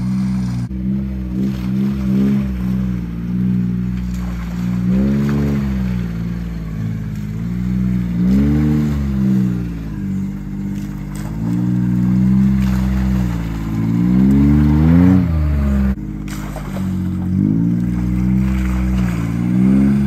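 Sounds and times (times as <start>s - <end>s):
utility vehicle engine revving: 0.0s - 20.0s.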